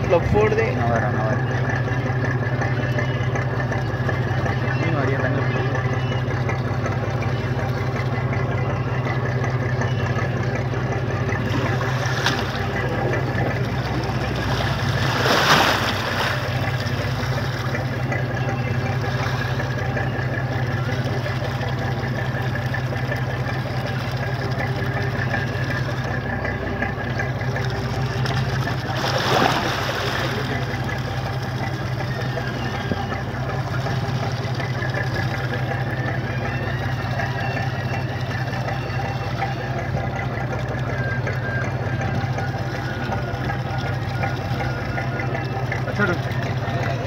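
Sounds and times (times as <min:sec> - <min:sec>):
boat engine humming: 0:00.0 - 0:47.0.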